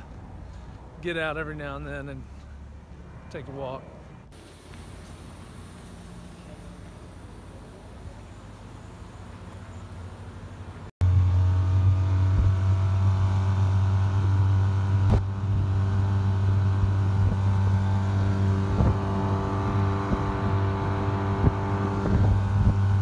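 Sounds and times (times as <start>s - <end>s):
faint outdoor background noise: 0.0s - 23.0s
outboard motor droning: 4.4s - 23.0s.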